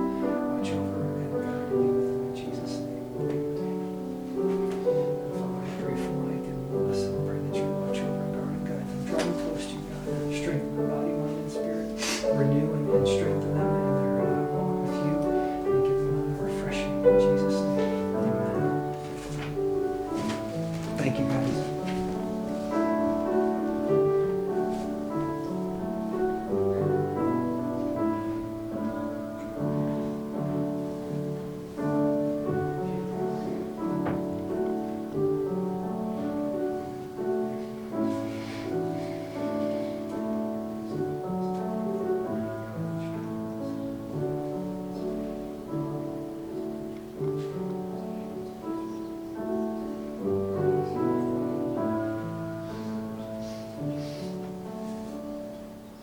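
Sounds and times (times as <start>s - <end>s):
soft piano music: 0.0s - 56.0s.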